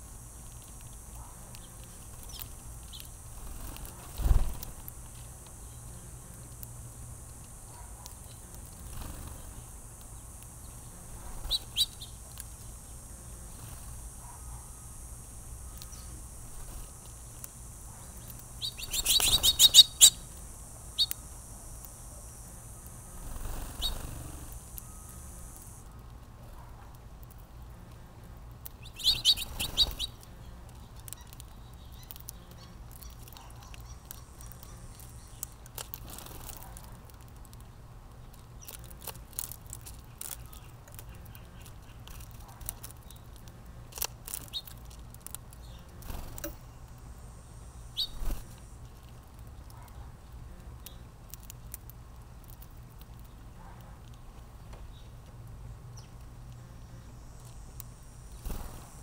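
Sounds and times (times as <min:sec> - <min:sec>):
insect buzz: 0:00.0 - 0:26.0, 0:27.6 - 0:37.6, 0:38.6 - 0:49.5, 0:55.7 - 0:59.0
songbirds chirping: 0:00.0 - 0:59.0.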